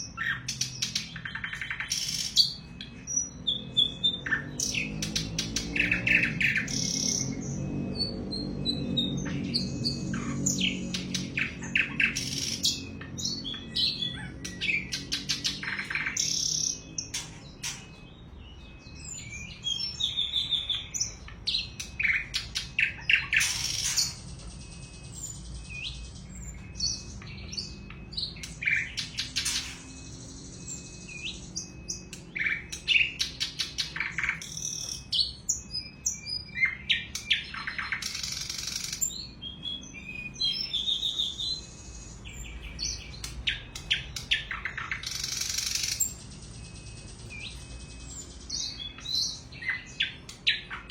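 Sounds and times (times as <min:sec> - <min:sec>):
flycatcher singing: 0:00.0 - 0:50.9.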